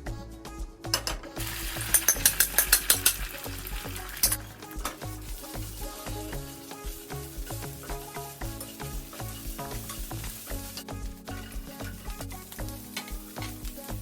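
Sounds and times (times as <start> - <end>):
background music: 0.0 - 14.0
food sizzling in hot oil: 1.4 - 14.0
utensil clicking and scraping pan: 1.4 - 14.0.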